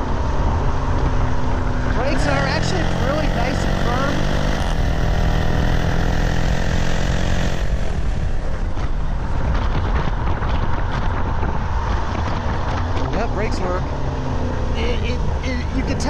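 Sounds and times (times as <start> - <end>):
car engine at speed: 0.0 - 16.0
road and tyre noise: 0.0 - 16.0.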